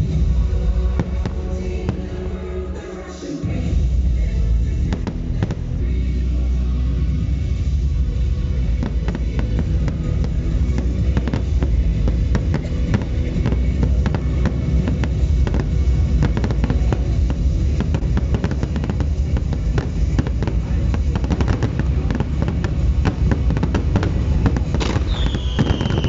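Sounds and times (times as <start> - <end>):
continuous low rumble: 0.0 - 26.0
fireworks bursting: 0.0 - 26.0
fireworks crackling: 0.0 - 26.0.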